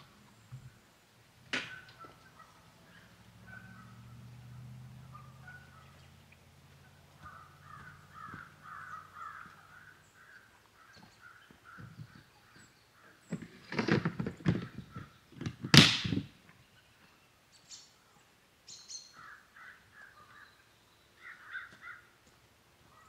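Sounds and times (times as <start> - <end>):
wild birds calling: 0.0 - 23.0.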